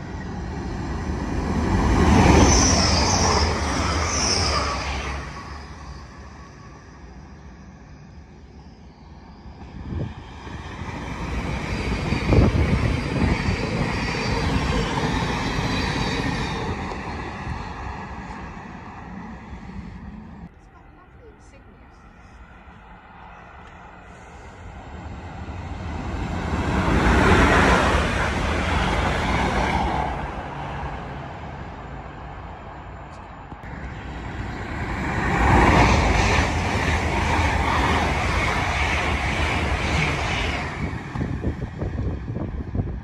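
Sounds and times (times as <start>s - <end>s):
trains passing at speed: 0.0s - 43.0s.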